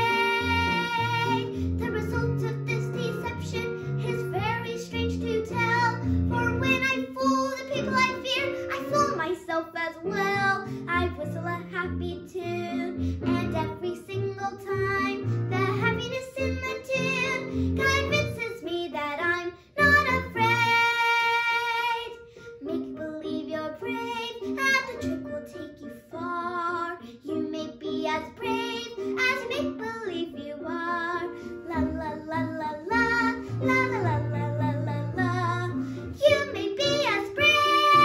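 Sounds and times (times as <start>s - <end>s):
girl singing a show tune: 0.0s - 38.0s.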